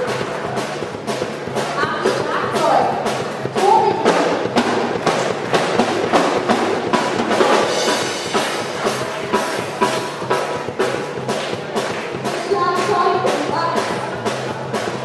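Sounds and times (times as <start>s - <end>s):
bass drum and snare hits: 0.0s - 13.0s
live rock band playing: 0.0s - 15.0s.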